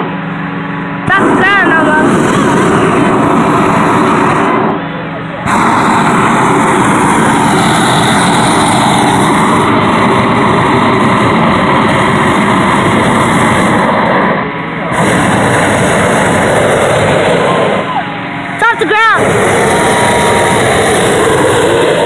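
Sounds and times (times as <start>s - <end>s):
inflation fan roaring: 0.0s - 22.0s.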